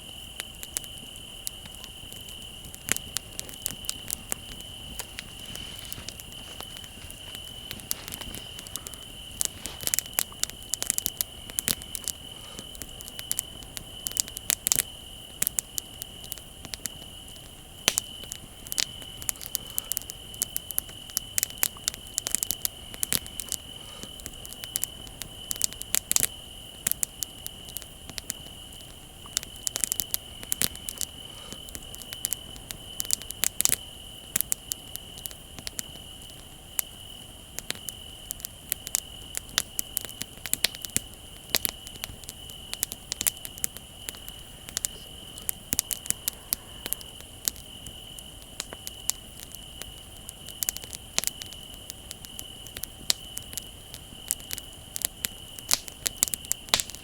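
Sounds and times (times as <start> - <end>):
bonfire crackling and popping: 0.0 - 57.0
crickets trilling: 0.0 - 57.0.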